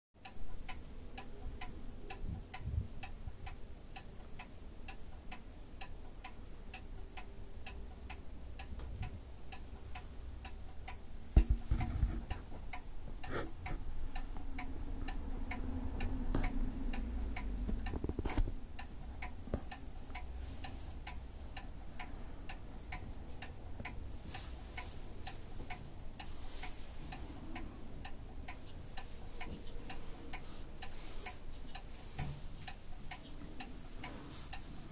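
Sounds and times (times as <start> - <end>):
clock ticking: 0.2 - 34.9.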